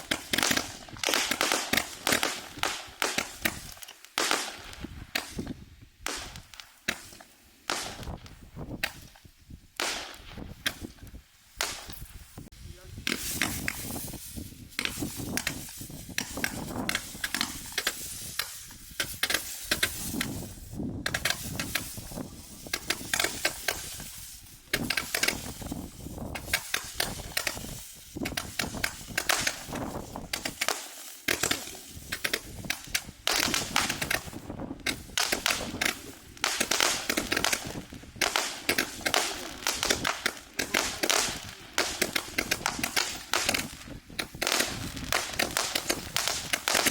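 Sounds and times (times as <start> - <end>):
firework cake crackling pops: 0.0 - 46.9.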